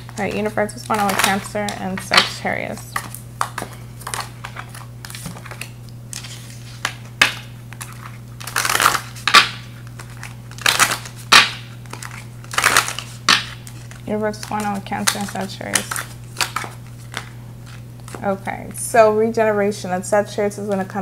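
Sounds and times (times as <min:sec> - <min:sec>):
cards being shuffled: 0:00.0 - 0:18.3.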